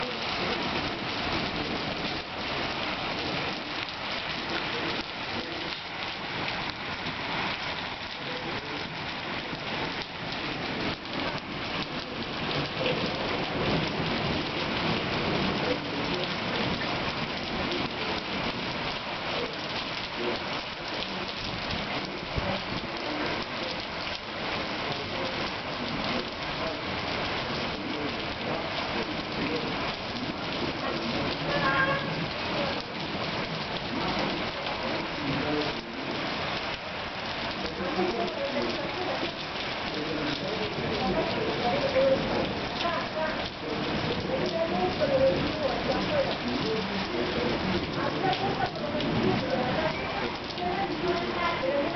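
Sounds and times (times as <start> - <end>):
heavy rain and hail falling: 0.0 - 51.9.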